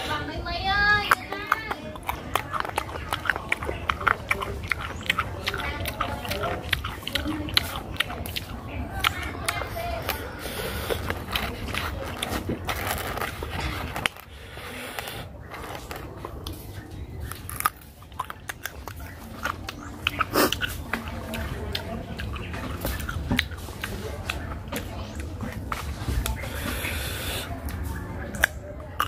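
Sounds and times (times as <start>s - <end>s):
person crunching fruit: 1.0s - 29.0s.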